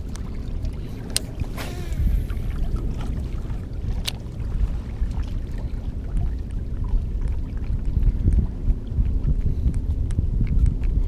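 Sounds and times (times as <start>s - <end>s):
small waves lapping against rocks: 0.0s - 11.0s
wind on microphone: 0.0s - 11.0s.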